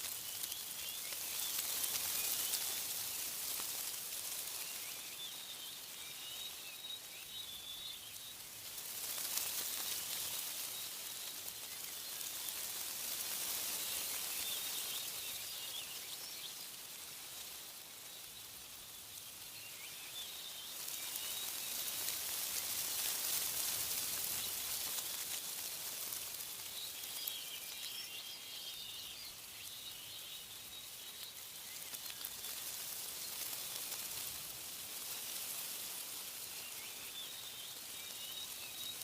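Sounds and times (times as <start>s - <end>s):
small birds chirping: 0.0s - 39.0s
wind rustling leaves: 0.0s - 39.0s.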